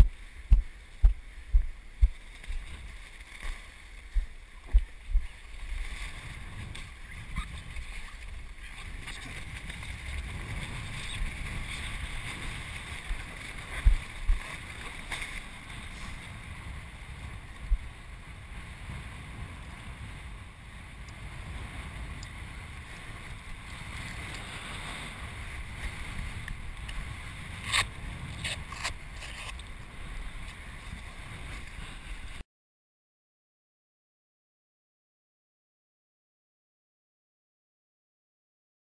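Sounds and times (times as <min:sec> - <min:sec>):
wind buffeting microphone: 0:00.0 - 0:32.4.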